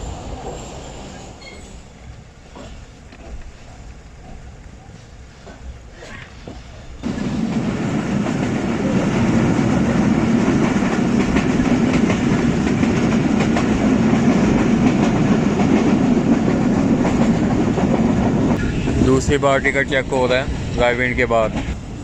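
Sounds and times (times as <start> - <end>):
train wheel and track rumble: 0.0 - 22.0
wheels clickety-clack on rail joints: 0.0 - 22.0.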